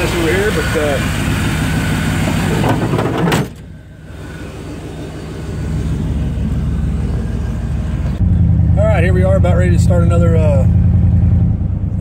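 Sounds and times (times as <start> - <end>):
engine running with rushing noise: 0.0 - 12.0
low engine rumble: 0.0 - 12.0.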